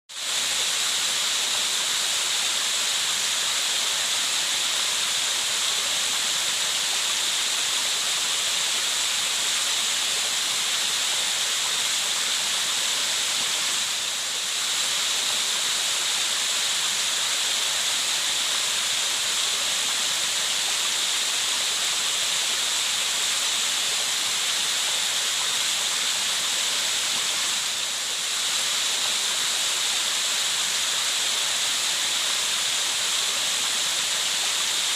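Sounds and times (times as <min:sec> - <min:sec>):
falling water rushing: 0:00.1 - 0:34.9.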